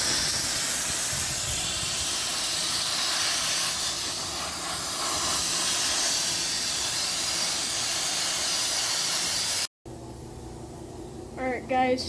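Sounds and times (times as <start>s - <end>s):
sandblaster hissing: 0.0s - 9.7s.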